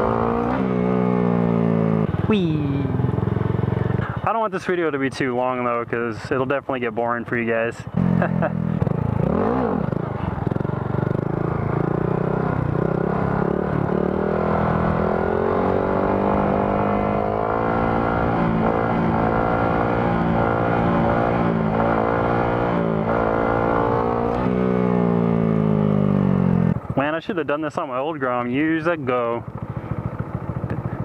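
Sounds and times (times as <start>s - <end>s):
motorcycle engine running: 0.0s - 6.5s, 7.1s - 31.0s.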